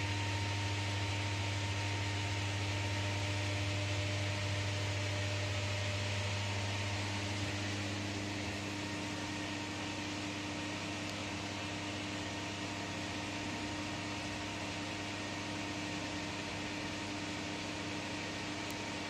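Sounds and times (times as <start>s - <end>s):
fan unit humming and hissing: 0.0s - 19.0s.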